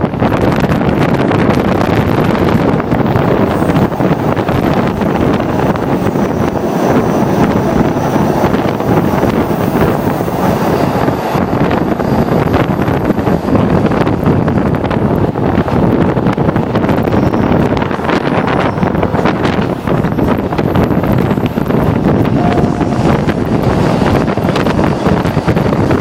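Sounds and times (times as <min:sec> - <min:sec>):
train running noise: 0:00.0 - 0:26.0
wind buffeting microphone: 0:00.0 - 0:26.0.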